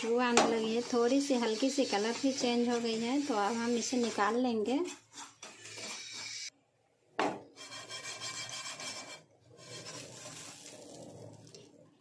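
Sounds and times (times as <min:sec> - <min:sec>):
spatula scraping a frying pan: 0:00.0 - 0:06.5, 0:07.5 - 0:11.7.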